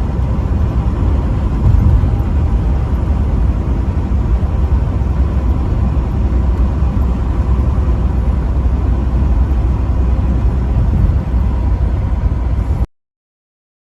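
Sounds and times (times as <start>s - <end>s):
vehicle engine and road noise: 0.0s - 12.9s.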